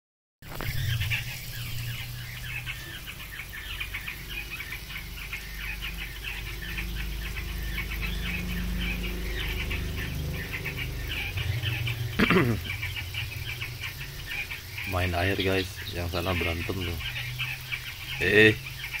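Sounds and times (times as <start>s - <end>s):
loud gliding bird call: 0.5s - 19.0s
quail chirping high peeps: 0.5s - 19.0s
steady low rumble: 0.6s - 19.0s.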